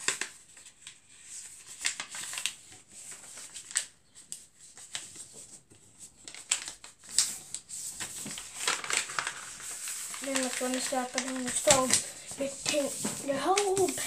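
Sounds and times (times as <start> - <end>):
paper being folded and creased: 0.0 - 14.0.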